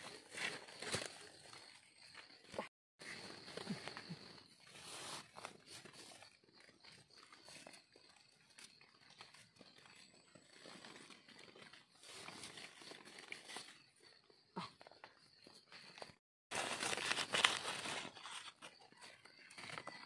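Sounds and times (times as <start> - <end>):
scraping of soil and leaves: 0.0 - 2.1, 3.0 - 14.2, 15.4 - 20.0.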